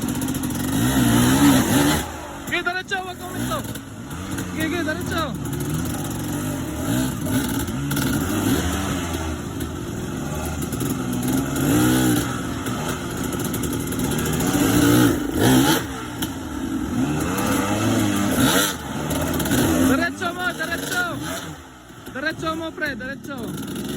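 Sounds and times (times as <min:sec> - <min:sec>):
dirt bike engine revving: 0:00.0 - 0:23.9.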